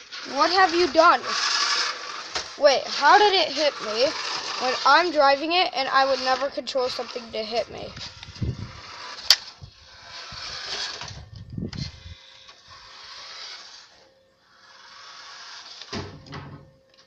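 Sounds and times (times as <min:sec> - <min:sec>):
toy car motor whirring: 0:00.0 - 0:16.3.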